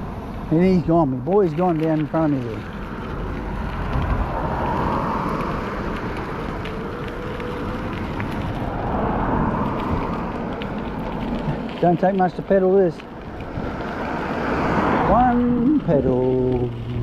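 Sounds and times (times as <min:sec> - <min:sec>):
wind buffeting microphone: 0:00.0 - 0:17.0
tyre rumble: 0:01.3 - 0:17.0.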